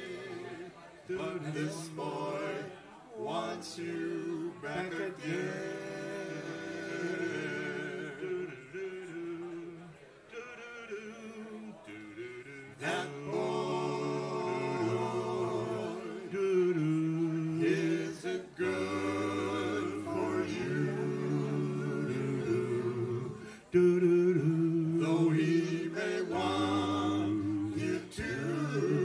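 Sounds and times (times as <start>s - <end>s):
men singing in close harmony: 0.0s - 29.0s.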